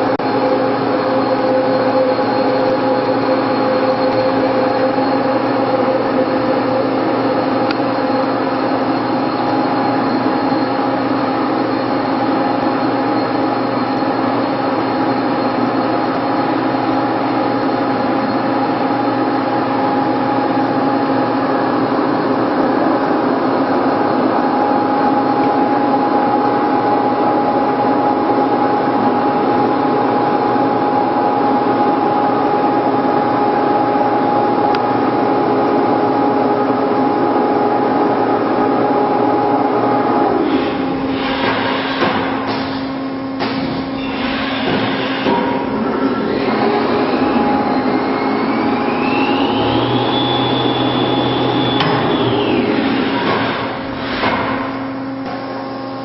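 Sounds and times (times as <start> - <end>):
constant machine tones: 0.0 - 56.0
lathe machine whir: 0.0 - 56.0.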